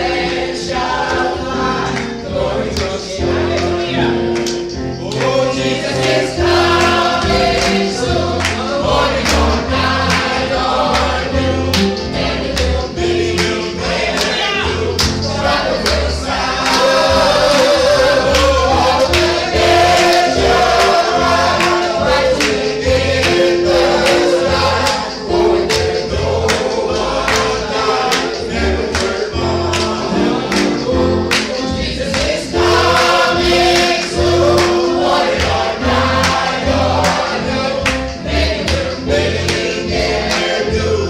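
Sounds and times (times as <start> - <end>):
group singing a hymn: 0.0 - 41.0
instrumental accompaniment: 0.0 - 41.0.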